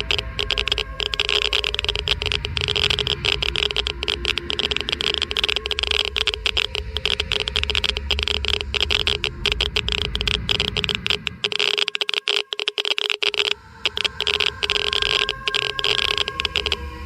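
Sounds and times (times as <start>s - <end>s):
geiger counter clicking: 0.0s - 17.0s.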